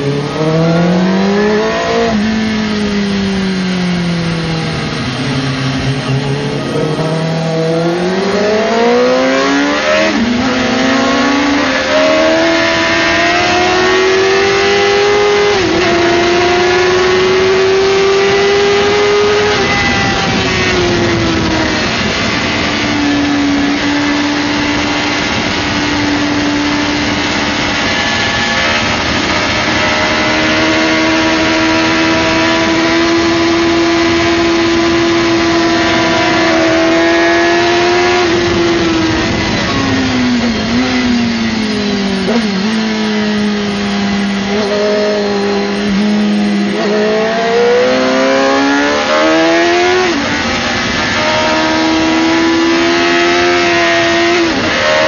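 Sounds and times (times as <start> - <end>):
motorcycle engine at high revs: 0.0 - 55.0
rush of wind: 0.0 - 55.0.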